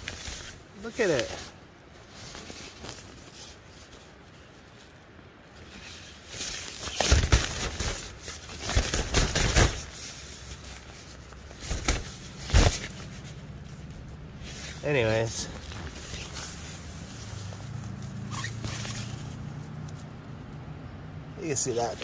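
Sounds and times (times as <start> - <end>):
handling rustling and bumps: 0.0 - 20.5
faint steady background noise: 0.0 - 22.0.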